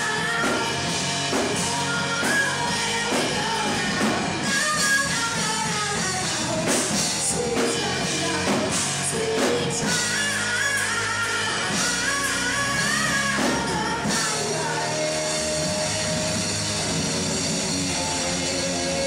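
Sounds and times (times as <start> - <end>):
person singing: 0.0 - 17.2
live rock band: 0.0 - 19.0.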